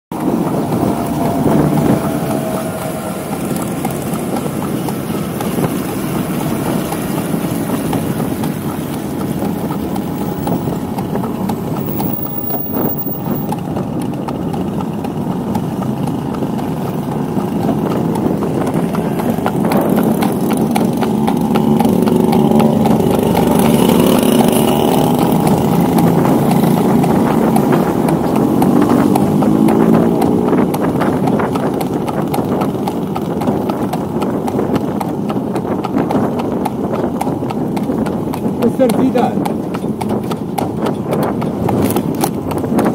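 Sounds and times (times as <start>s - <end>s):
horse hooves clip-clopping: 0.1s - 42.9s
motorcycle engine: 0.1s - 42.9s.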